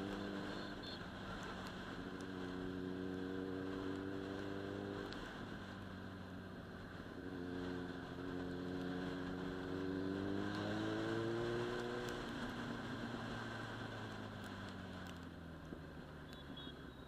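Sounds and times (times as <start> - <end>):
motorcycle engine accelerating: 0.0 - 16.7.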